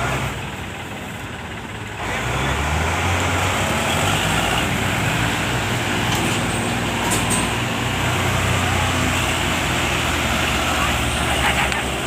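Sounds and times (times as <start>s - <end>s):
diesel engines running loudly: 0.0s - 12.0s.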